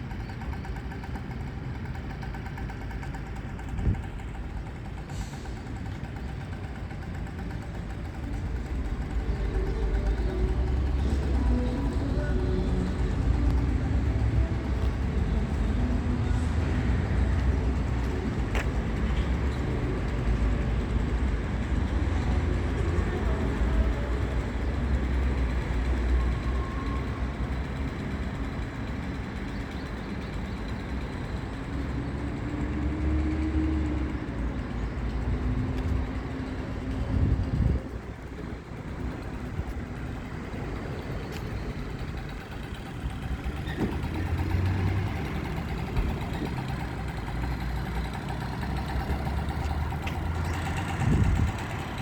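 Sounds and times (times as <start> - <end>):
small petrol engine running: 0.0 - 52.0.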